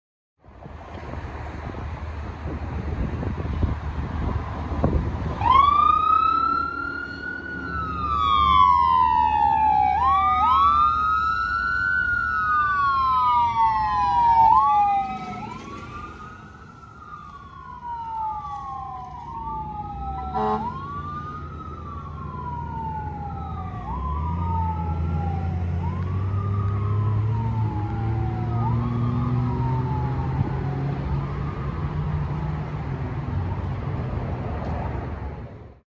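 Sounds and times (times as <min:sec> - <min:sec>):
fire engine siren wailing: 0:03.6 - 0:34.2.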